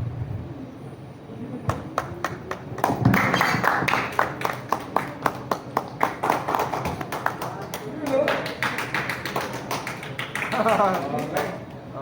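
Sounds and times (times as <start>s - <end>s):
audience clapping: 1.6s - 11.7s.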